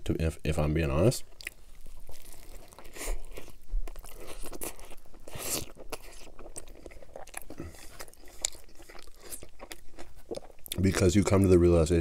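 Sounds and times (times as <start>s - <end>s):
crisp crunching chewing: 1.3s - 11.1s.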